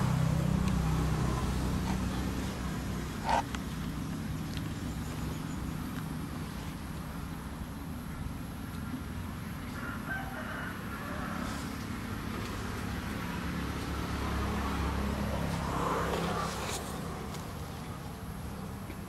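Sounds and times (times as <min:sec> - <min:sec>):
passing vehicle engine rumble: 0:00.0 - 0:19.0.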